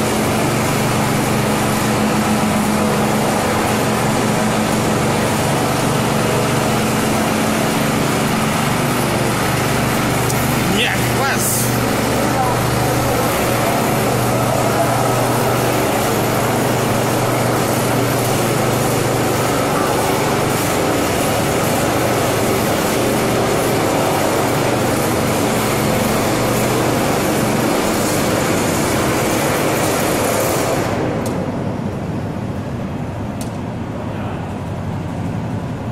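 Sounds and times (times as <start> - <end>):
machine engine hum: 0.0 - 35.9.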